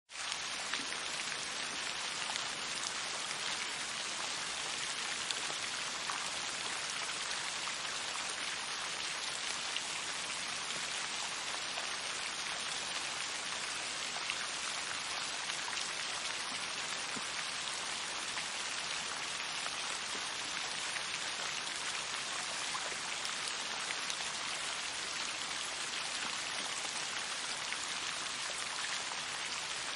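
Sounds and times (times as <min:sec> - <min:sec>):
steady rain hiss: 0:00.1 - 0:29.9.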